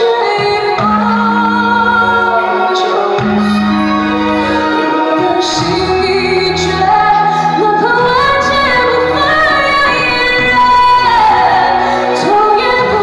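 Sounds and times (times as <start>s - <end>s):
instrumental accompaniment: 0.0s - 13.0s
woman singing into microphone: 0.0s - 13.0s.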